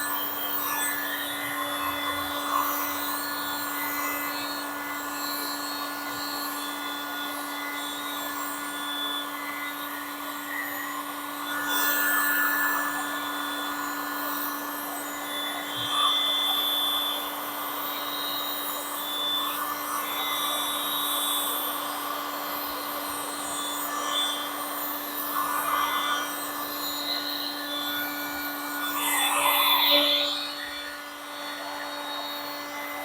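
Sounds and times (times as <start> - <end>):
electric blower running: 0.0 - 28.7.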